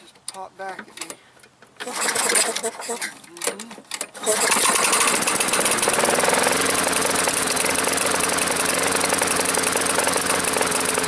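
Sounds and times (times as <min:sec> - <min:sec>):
lawn mower engine running: 0:01.8 - 0:11.0.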